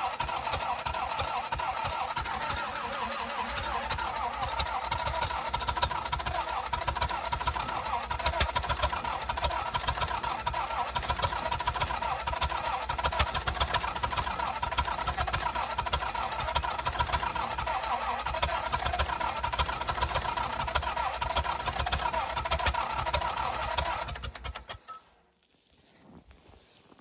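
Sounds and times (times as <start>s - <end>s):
welder engine running: 0.0s - 24.7s.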